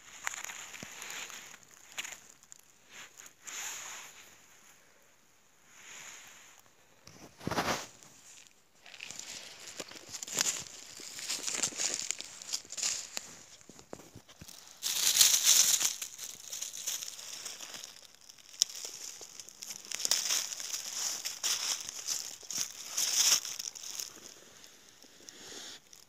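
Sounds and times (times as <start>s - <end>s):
footsteps through dry leaves: 0.0s - 2.6s, 7.4s - 26.0s.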